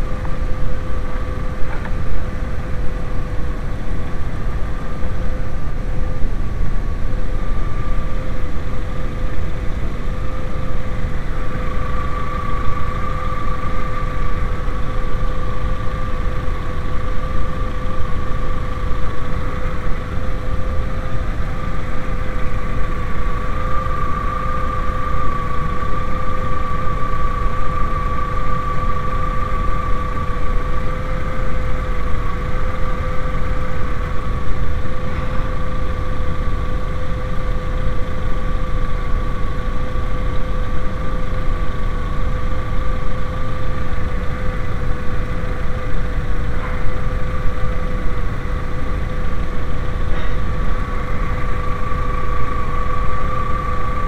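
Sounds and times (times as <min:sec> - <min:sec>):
low rumbling hiss: 0:00.0 - 0:54.0
steady whining tones: 0:00.0 - 0:54.0.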